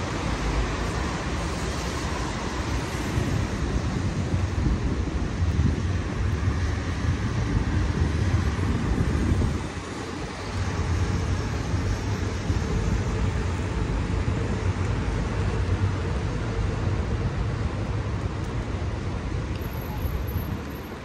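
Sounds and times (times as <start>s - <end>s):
traffic on wet roads: 0.0s - 21.0s.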